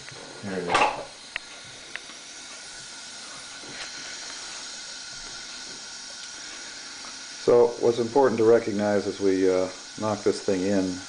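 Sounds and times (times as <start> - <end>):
compressed air hiss: 0.0 - 11.0.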